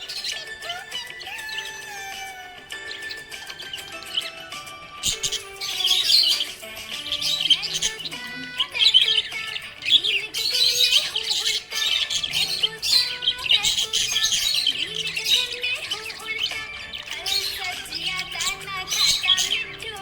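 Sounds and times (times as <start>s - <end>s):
background music: 0.0s - 20.0s
budgerigar chirping and warbling: 0.0s - 20.0s.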